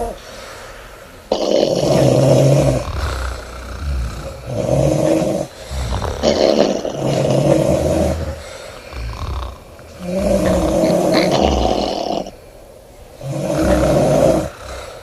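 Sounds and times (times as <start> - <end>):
woman snoring loudly: 1.3 - 12.4, 13.2 - 15.0.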